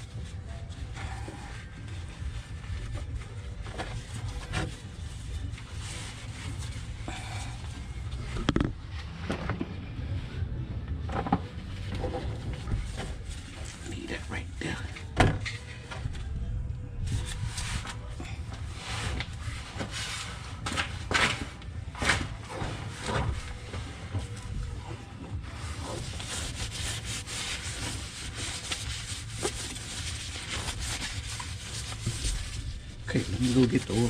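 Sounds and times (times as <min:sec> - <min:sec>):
rubbing and rustling handling: 0:00.0 - 0:10.5, 0:11.1 - 0:34.0
steady low rumble: 0:00.0 - 0:34.0.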